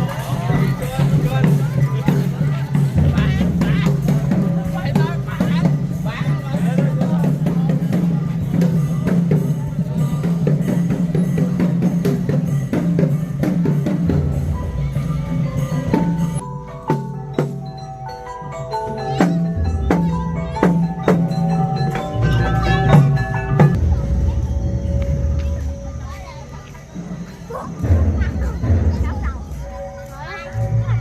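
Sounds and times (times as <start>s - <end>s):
mallet percussion notes: 0.0s - 31.0s
steady drum beat: 0.0s - 31.0s.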